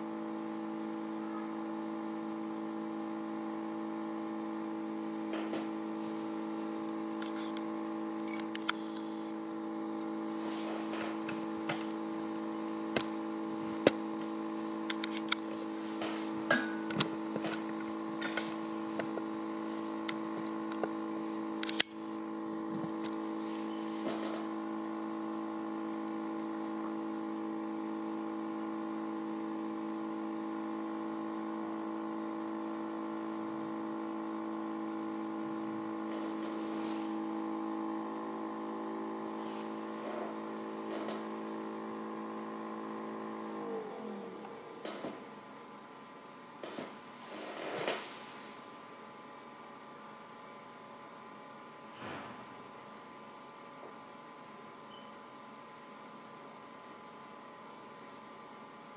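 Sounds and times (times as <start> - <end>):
magnetic stirrer humming: 0.0 - 48.8.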